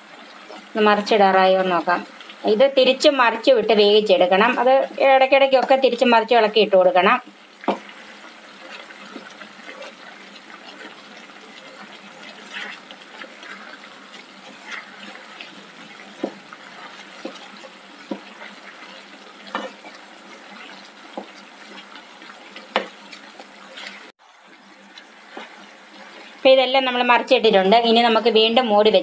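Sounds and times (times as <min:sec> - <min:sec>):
chicken frying in a pan: 0:00.0 - 0:29.0.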